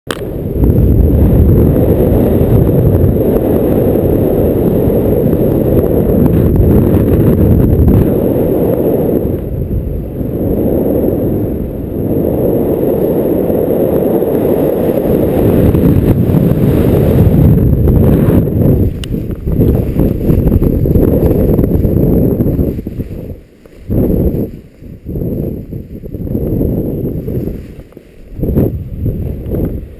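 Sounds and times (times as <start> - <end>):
wind buffeting microphone: 0.1 - 29.9.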